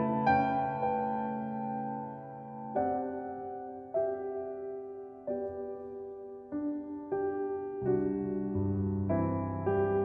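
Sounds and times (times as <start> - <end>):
slow gentle piano music: 0.0 - 10.0.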